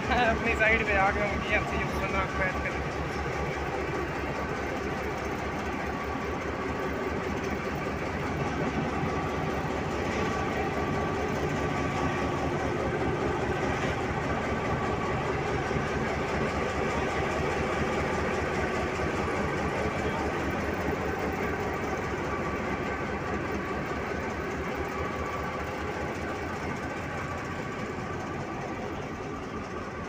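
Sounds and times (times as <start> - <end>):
diesel locomotive engine idling: 0.0 - 30.0
passenger train rolling past: 0.0 - 30.0.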